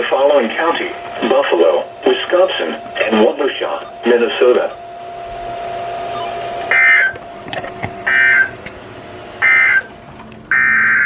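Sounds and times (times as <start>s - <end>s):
warbling data tone bursts: 0.0s - 11.0s.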